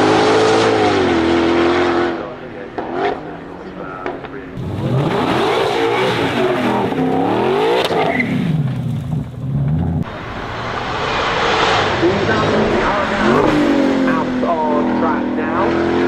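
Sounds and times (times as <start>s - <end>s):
car engines revving hard: 0.0s - 16.0s.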